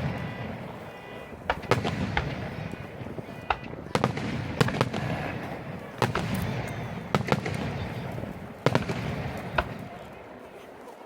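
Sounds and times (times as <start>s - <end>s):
fireworks bursting: 0.0s - 10.2s
rumble of echoing bangs: 0.0s - 10.2s.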